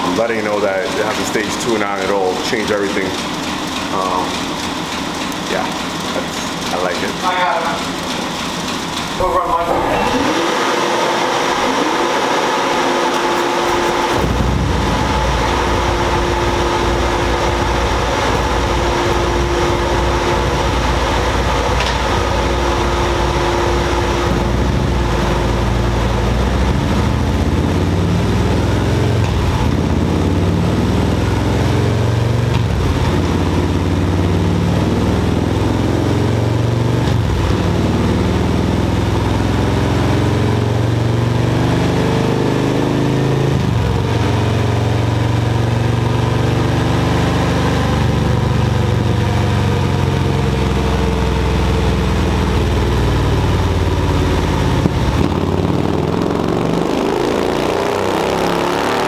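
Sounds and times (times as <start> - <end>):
motorcycle engine on dyno: 0.0 - 59.0.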